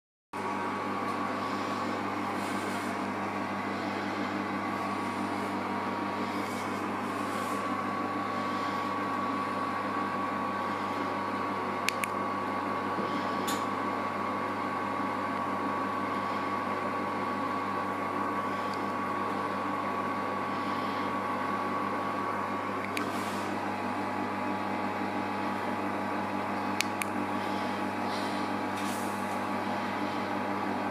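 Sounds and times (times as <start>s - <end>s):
kitchen appliance motor hum: 0.4s - 30.9s.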